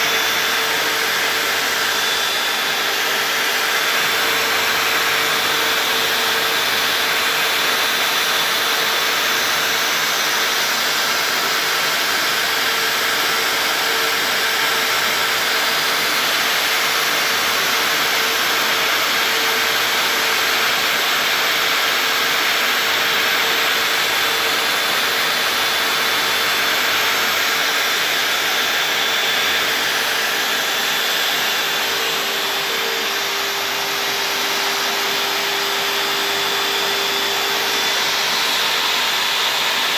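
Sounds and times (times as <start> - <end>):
router spindle whine and hiss: 0.0 - 39.9.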